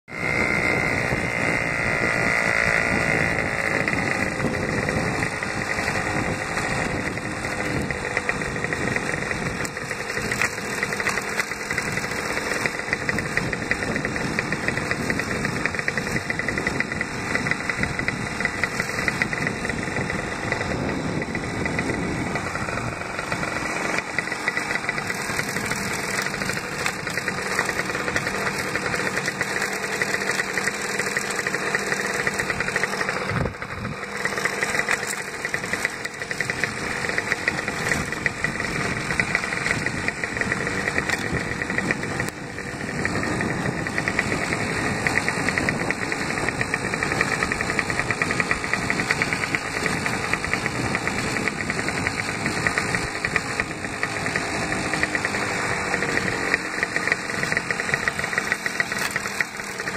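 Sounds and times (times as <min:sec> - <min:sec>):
motorcycle engine running: 0:00.0 - 0:59.9
rattle of small clicks: 0:00.2 - 0:59.9.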